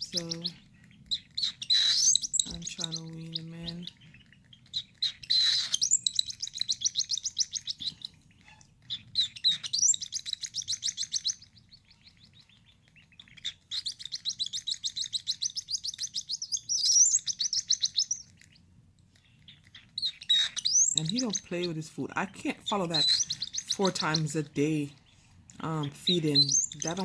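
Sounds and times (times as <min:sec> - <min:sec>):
chick high chirps: 0:00.0 - 0:27.0.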